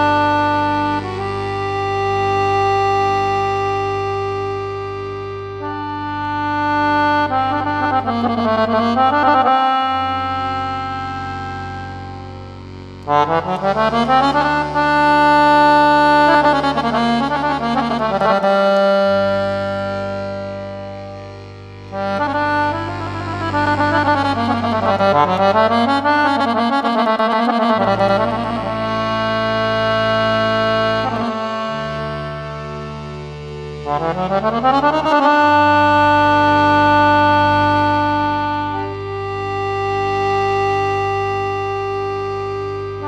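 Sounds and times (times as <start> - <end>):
instrumental music with sliding notes: 0.0 - 43.0
sustained bass notes: 0.0 - 43.0.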